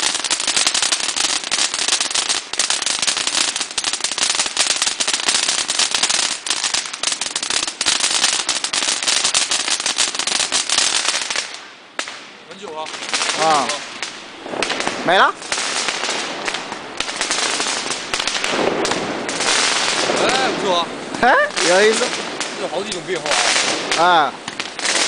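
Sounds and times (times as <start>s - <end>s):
spark fountain firework crackling: 0.0s - 25.0s.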